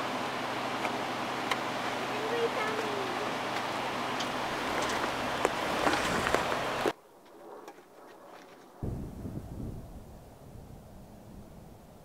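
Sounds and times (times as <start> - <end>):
steady rushing outdoor noise: 0.0 - 12.0.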